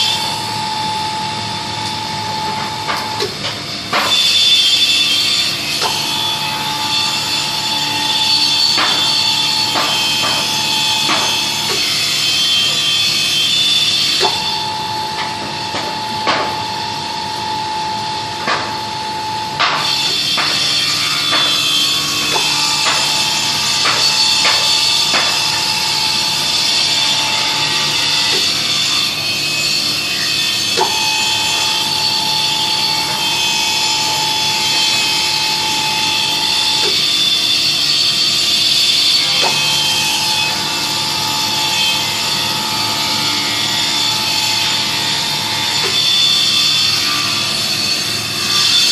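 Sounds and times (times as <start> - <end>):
steady machine tone: 0.0 - 47.0
pipe-bending machine running: 0.0 - 48.9.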